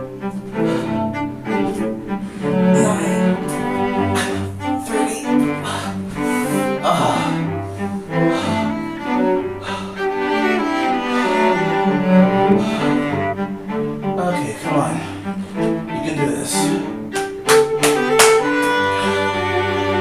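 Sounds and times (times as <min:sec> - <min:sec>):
low bowed string instrument: 0:00.0 - 0:20.0.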